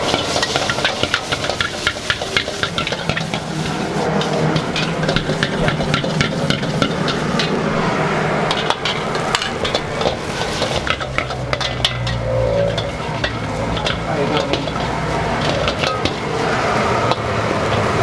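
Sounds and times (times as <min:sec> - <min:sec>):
gas burner rumble: 0:00.0 - 0:18.0
metal ladle scraping a wok: 0:00.0 - 0:18.0
sizzling: 0:00.0 - 0:18.0.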